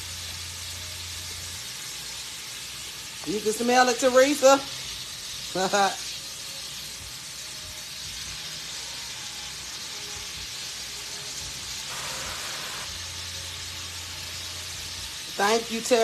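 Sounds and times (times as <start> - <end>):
shrimp sizzling in skillet: 0.0 - 16.0.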